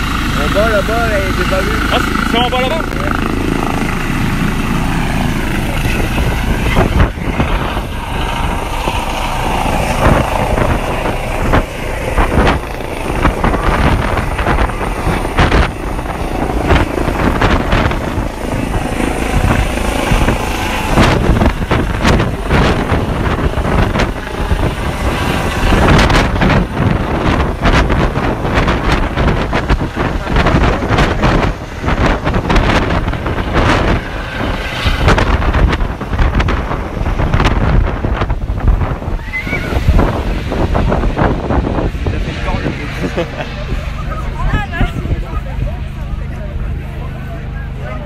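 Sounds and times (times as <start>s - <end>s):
helicopter rotor: 0.0s - 48.0s.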